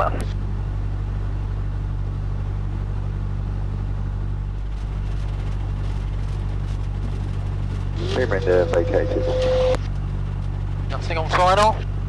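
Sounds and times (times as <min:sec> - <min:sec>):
aircraft piston engine droning: 0:00.0 - 0:12.0.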